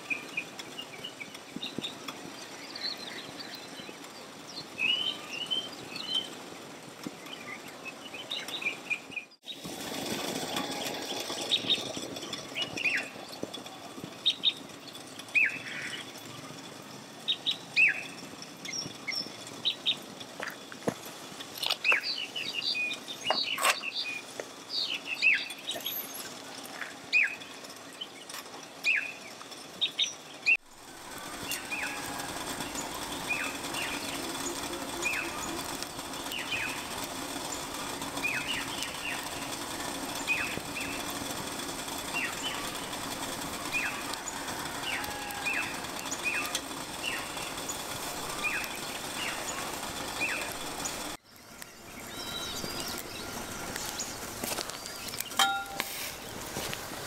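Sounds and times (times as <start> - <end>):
birds chirping: 0.0 - 57.0
kettle water heating hiss: 0.0 - 57.0
wood fire crackling: 0.0 - 57.0.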